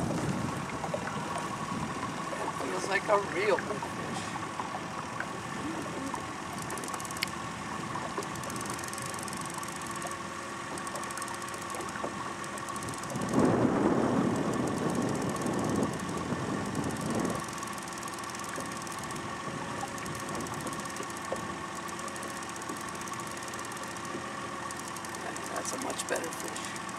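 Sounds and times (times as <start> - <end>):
outboard motor running: 0.0 - 26.9.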